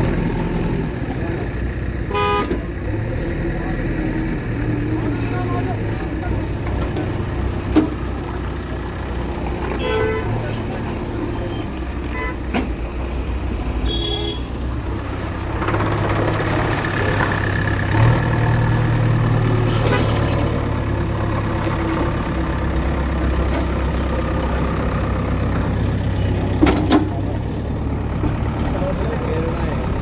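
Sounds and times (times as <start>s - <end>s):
heavy vehicle engine humming: 0.0s - 30.0s.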